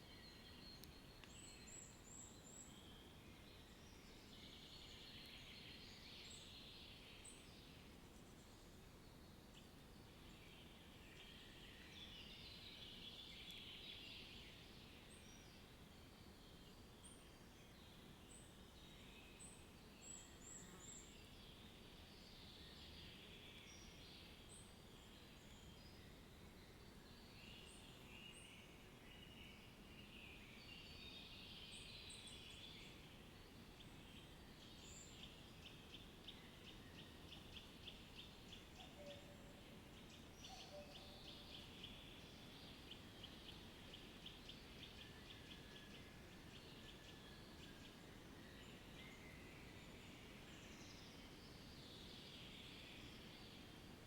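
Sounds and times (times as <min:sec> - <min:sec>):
background hiss: 0:00.1 - 0:54.0.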